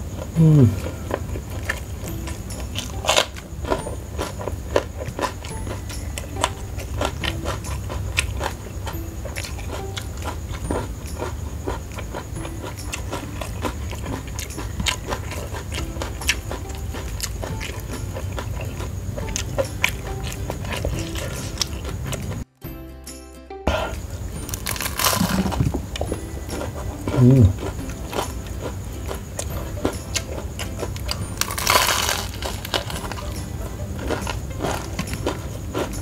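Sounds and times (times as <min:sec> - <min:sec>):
chewing with mouth closed: 0:00.2 - 0:22.5, 0:24.4 - 0:36.0.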